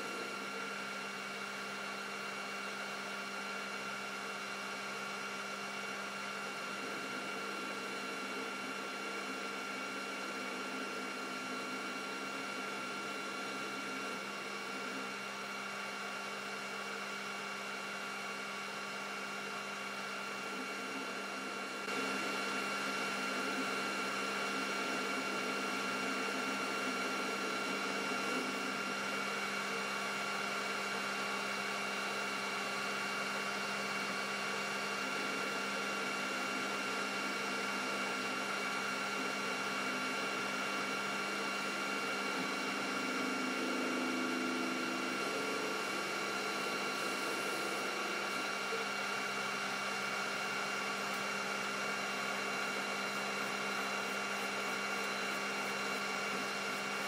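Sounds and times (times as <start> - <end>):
metal lathe motor whine: 0.0 - 57.0.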